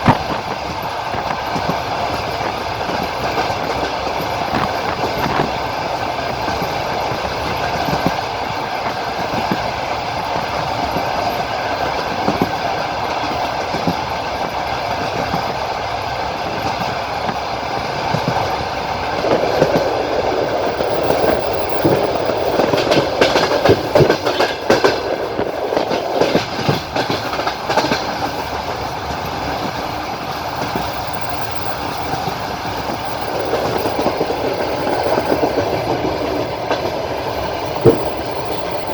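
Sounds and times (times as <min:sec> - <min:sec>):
clickety-clack over rail joints: 0:00.0 - 0:38.9
train wheels rumbling on rails: 0:00.0 - 0:38.9.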